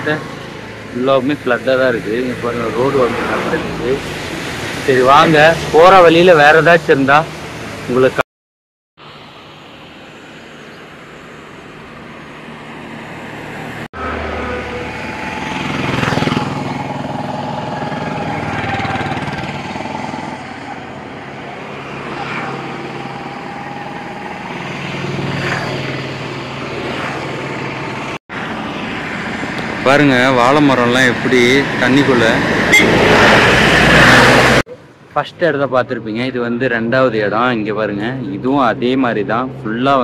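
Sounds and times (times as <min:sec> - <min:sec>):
vehicles driving past: 0:00.0 - 0:08.2, 0:09.0 - 0:40.0.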